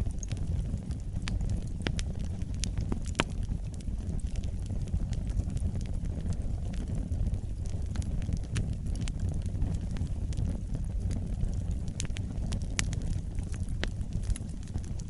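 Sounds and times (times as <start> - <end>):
fire crackling and popping: 0.0 - 15.0
low rumble of flame: 0.0 - 15.0.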